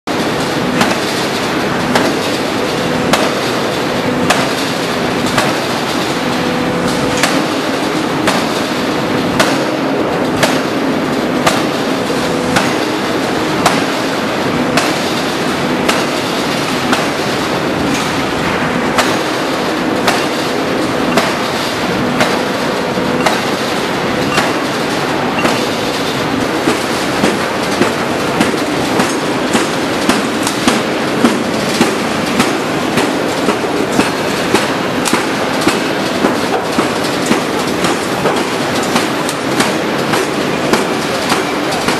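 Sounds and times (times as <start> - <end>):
steady machine din: 0.1 - 41.9
forging hammer striking: 3.0 - 4.7, 5.3 - 6.4, 7.1 - 41.9.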